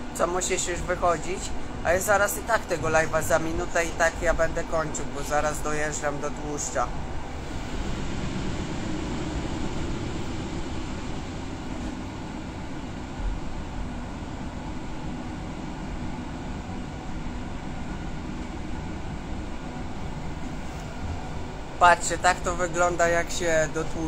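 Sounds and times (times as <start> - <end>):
train running noise inside carriage: 0.0 - 24.0.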